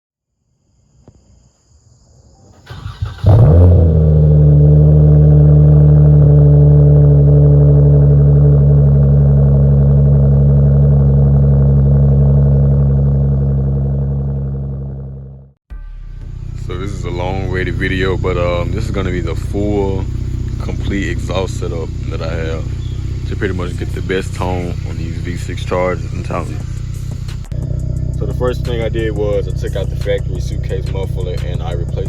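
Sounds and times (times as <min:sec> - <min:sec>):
car engine starting and idling: 0:02.6 - 0:32.0.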